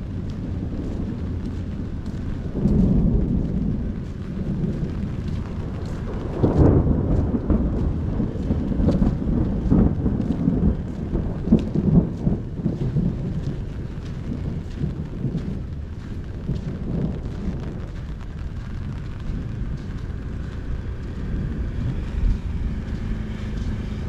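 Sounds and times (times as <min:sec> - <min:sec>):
low thunder rumbling: 0:00.0 - 0:24.0
rain falling: 0:00.0 - 0:24.0.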